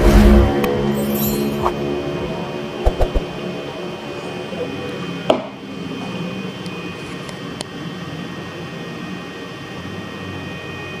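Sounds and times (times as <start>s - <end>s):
faint high whine: 0.0s - 11.0s
humidifier whirring hum: 0.0s - 11.0s.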